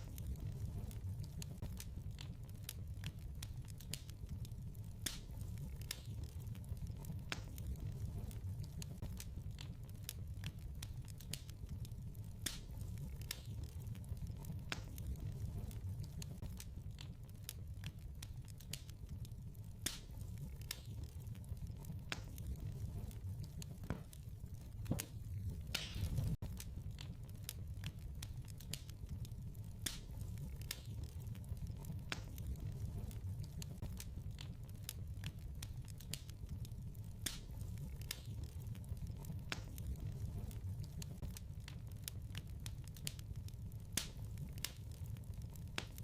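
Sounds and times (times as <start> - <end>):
low rumble of flames: 0.0 - 46.0
wood fire crackling: 0.0 - 46.0.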